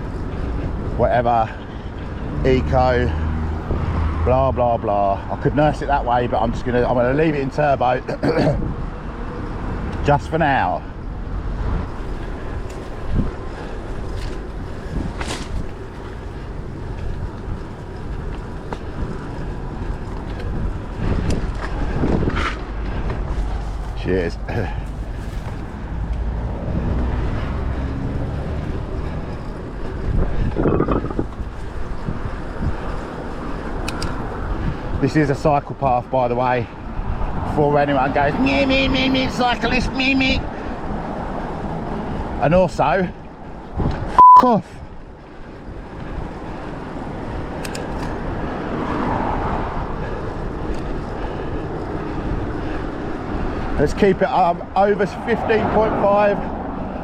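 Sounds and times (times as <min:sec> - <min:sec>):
bicycle tyre noise: 0:00.0 - 0:04.2, 0:11.8 - 0:44.0, 0:44.9 - 0:57.0
wind buffeting microphone: 0:00.0 - 0:07.5, 0:11.0 - 0:38.5, 0:44.8 - 0:57.0.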